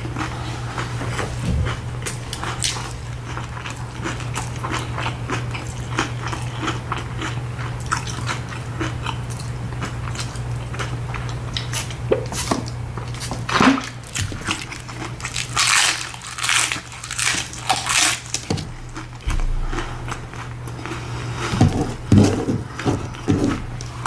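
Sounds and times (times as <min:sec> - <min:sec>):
crunching taco shells: 0:00.0 - 0:24.0.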